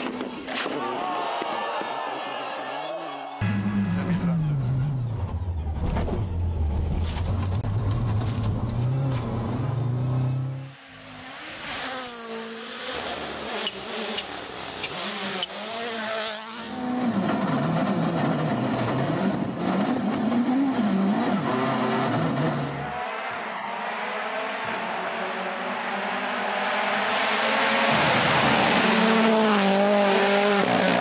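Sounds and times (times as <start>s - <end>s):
rally car engines revving: 3.4s - 23.0s, 23.7s - 31.0s.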